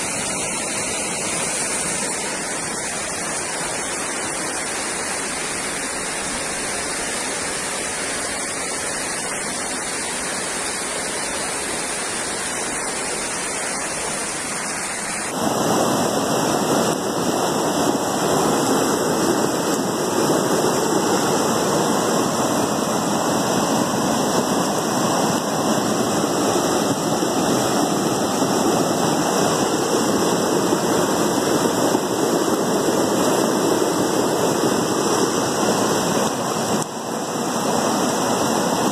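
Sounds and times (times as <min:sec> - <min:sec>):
floodwater rushing down a street: 0:00.0 - 0:38.9
heavy rain: 0:00.0 - 0:38.9.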